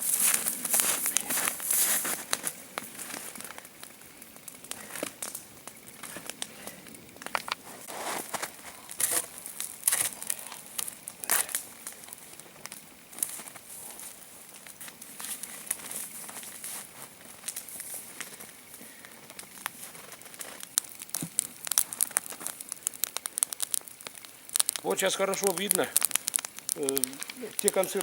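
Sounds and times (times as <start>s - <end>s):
log fire crackling and popping: 0.0s - 28.0s.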